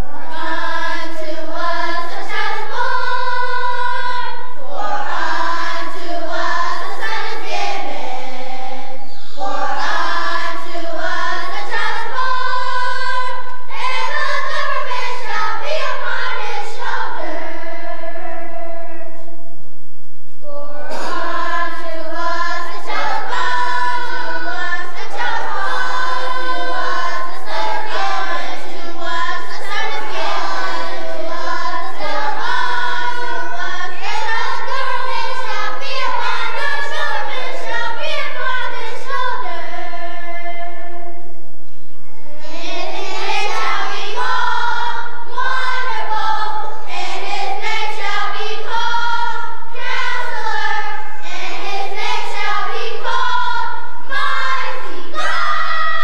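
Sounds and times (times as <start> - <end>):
children's choir singing: 0.0 - 19.3, 20.4 - 41.3, 42.0 - 56.0.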